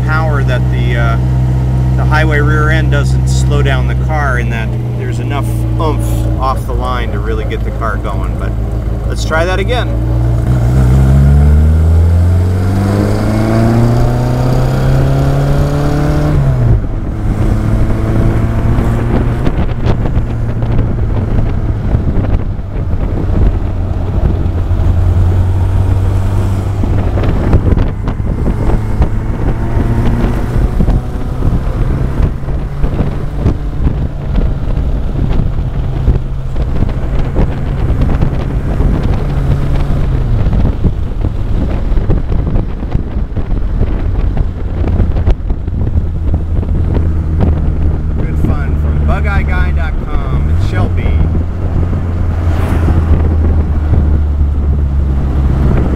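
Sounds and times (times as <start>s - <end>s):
car engine accelerating: 0.0s - 55.9s
wind rushing over microphone: 0.0s - 55.9s.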